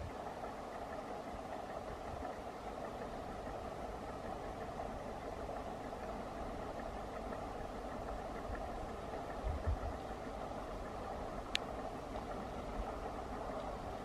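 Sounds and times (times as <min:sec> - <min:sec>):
distant train rumbling: 0:00.0 - 0:14.0.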